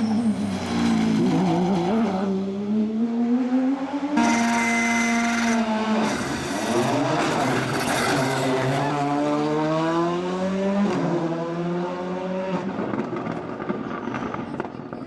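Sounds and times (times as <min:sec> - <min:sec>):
rally car engine accelerating: 0:00.0 - 0:12.8.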